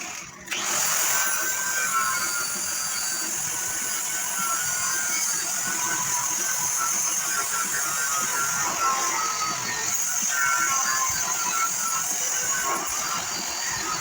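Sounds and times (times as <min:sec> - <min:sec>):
angle grinder grinding steel: 0:00.0 - 0:14.0.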